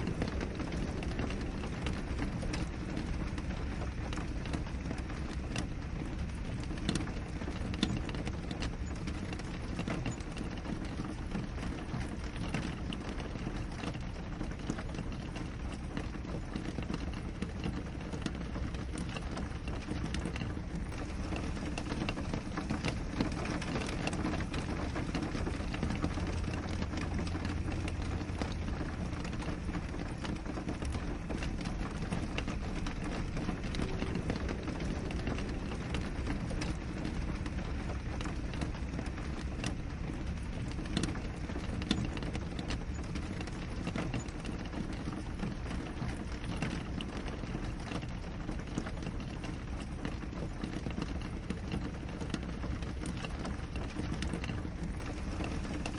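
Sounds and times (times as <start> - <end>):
rain drops striking a window: 0.0 - 55.9.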